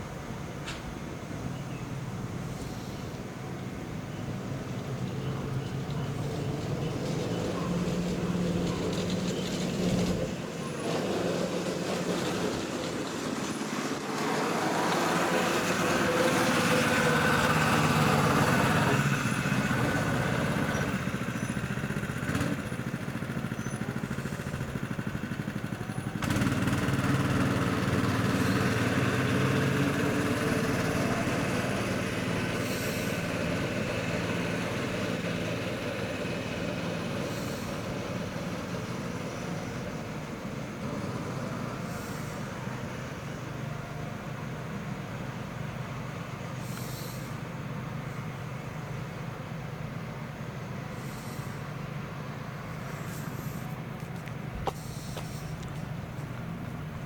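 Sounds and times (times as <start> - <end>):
go-kart engines running: 0.0 - 57.0.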